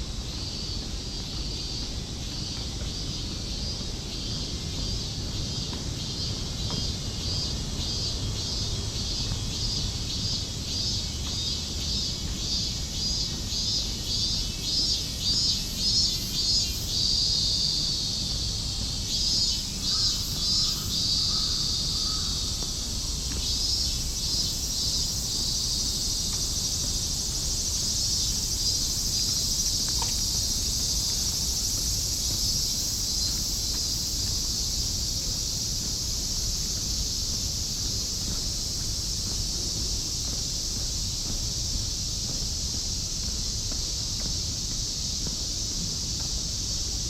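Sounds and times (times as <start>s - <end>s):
cicadas singing: 0.0s - 47.0s.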